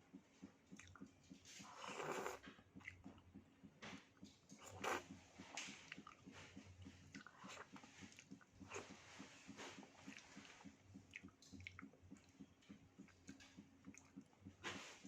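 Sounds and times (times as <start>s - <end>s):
chewing soft food: 0.1s - 15.0s.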